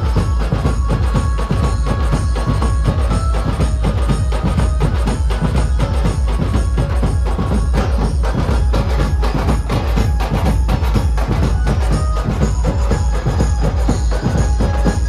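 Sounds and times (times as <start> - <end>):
loud rapid drumming: 0.0 - 15.0.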